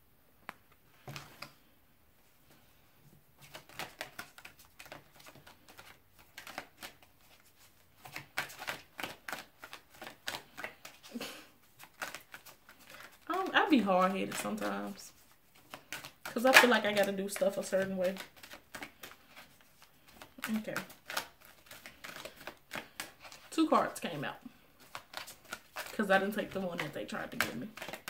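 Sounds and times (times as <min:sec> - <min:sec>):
cards being shuffled: 0:03.4 - 0:28.0.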